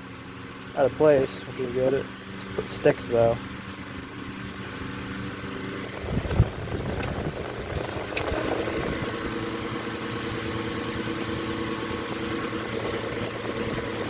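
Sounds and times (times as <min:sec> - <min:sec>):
table fan motor humming: 0:00.0 - 0:14.0.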